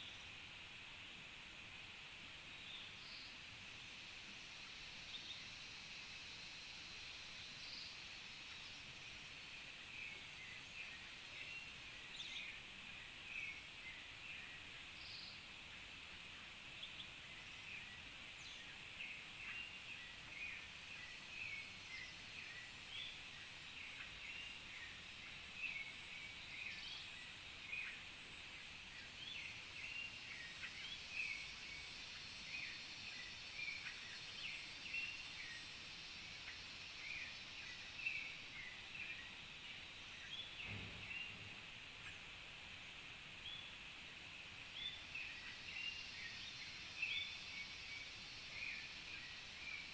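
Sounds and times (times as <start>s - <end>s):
birds chirping: 2.3s - 49.9s.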